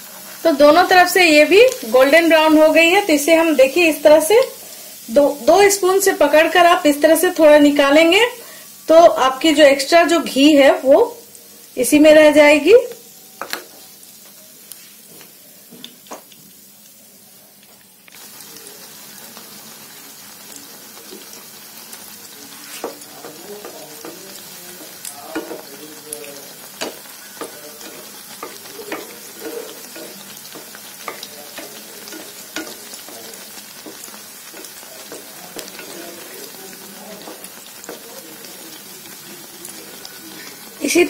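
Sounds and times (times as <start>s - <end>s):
batter sizzling in hot oil: 0.0s - 41.0s.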